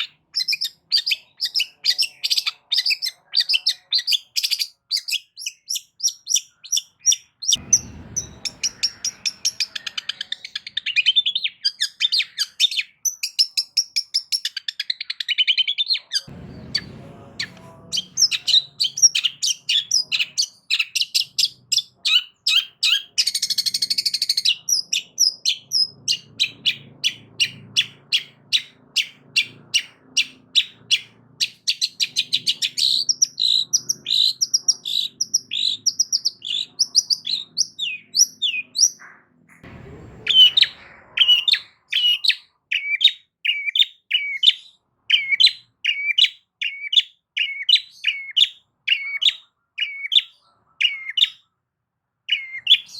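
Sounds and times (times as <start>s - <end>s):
harsh scratchy bird call: 0.0s - 39.2s, 40.2s - 51.4s
bird singing sharp chirps: 0.0s - 51.4s.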